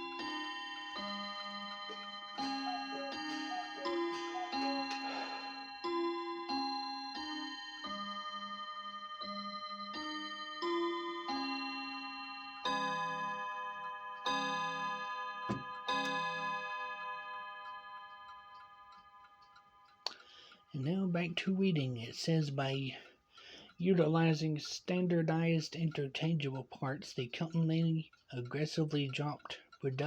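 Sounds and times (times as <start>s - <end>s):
clock ticking: 0.0s - 11.5s, 14.2s - 30.0s
clock chiming: 0.0s - 30.0s.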